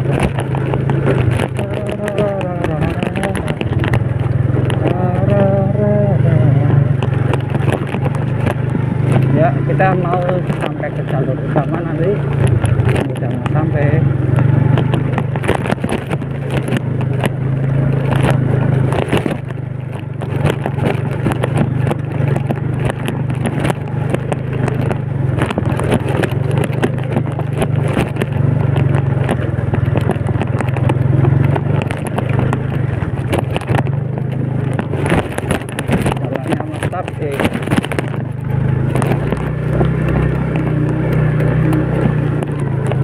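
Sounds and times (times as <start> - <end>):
clatters and knocks: 0.0 - 43.0
motorcycle engine running: 0.0 - 43.0.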